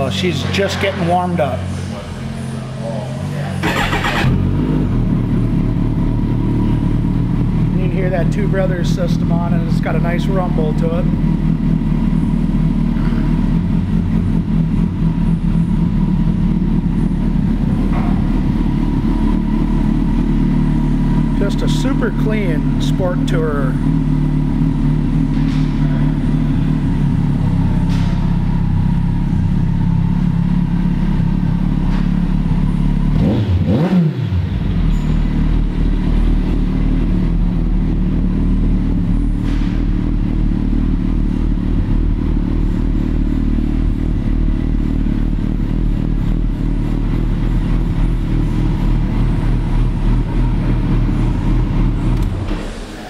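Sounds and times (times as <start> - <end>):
engine revving: 0.0 - 29.4, 31.2 - 53.0
motorcycle engine idling: 0.0 - 33.4, 34.5 - 53.0.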